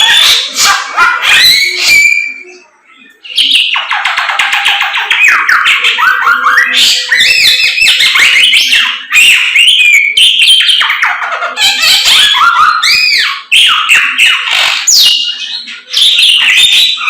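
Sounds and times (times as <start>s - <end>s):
songbird trilling and whistling: 0.0s - 17.0s.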